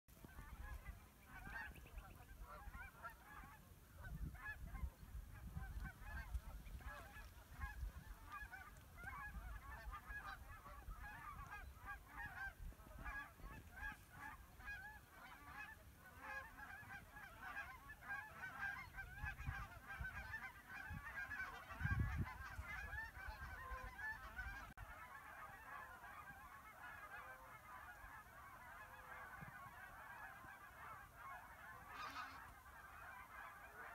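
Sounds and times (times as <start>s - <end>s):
geese honking: 0.2s - 33.9s.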